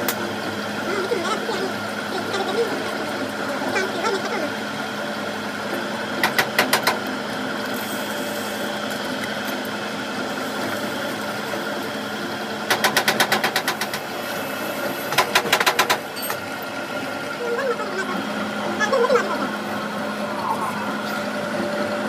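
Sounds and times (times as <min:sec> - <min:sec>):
workshop machine humming: 0:00.0 - 0:22.0.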